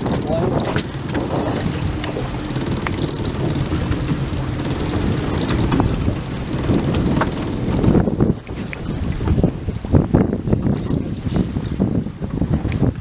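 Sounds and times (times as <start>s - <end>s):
boat engine humming: 0.0s - 12.4s
wind buffeting microphone: 0.0s - 13.0s.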